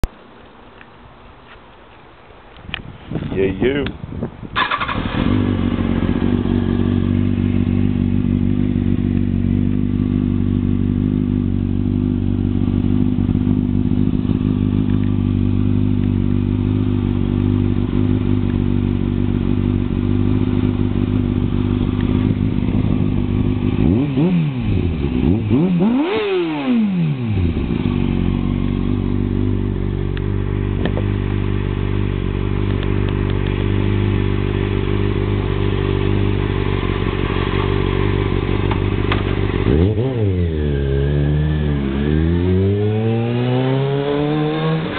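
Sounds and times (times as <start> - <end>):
motorcycle engine idling and revving: 2.8 - 44.9.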